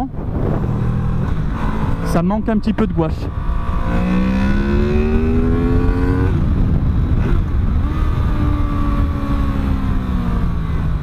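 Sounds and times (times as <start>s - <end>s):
wind rumble on microphone: 0.0s - 11.0s
motorcycle engine revving: 0.1s - 11.0s.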